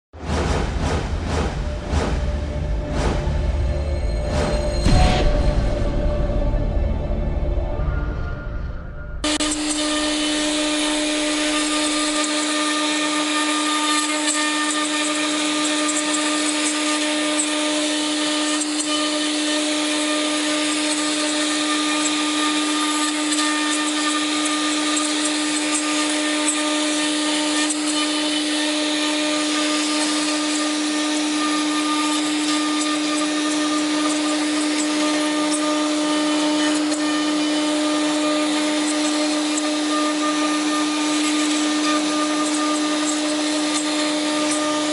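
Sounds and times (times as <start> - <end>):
router spindle whining: 2.2 - 44.9.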